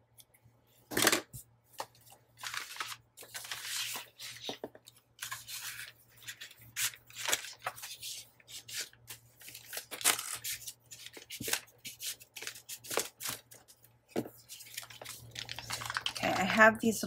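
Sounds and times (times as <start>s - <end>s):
paper rustling: 1.8s - 16.6s.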